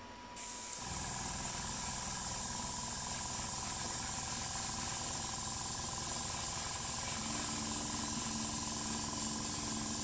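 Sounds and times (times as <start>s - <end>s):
airbrush compressor running: 0.4s - 10.0s
compressed air hissing: 0.4s - 10.0s.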